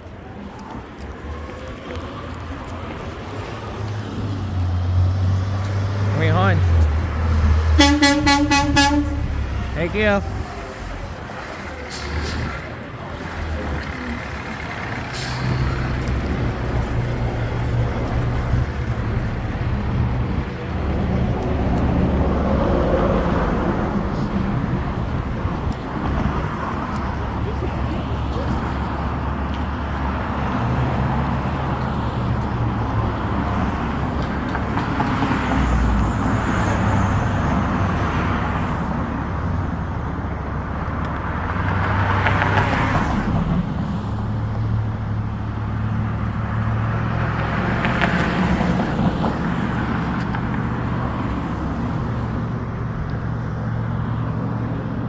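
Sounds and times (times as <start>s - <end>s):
traffic engines droning: 0.0s - 55.0s
vehicles passing: 0.0s - 55.0s.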